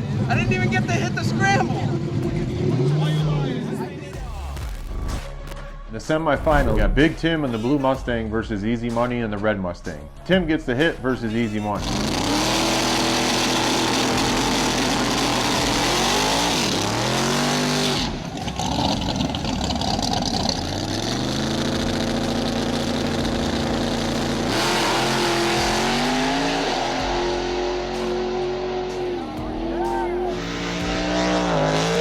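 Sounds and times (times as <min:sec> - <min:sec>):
racing car engines revving: 0:00.0 - 0:04.9, 0:10.7 - 0:32.0.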